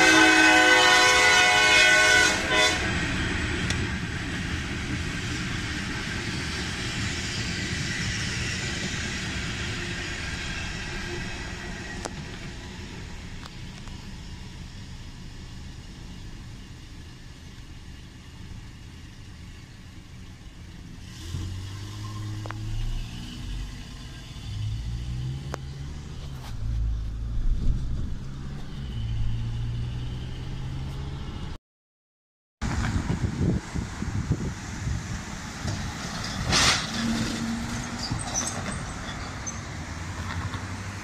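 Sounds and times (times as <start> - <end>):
car engine idling and accelerating: 2.8 - 31.6, 32.6 - 41.0.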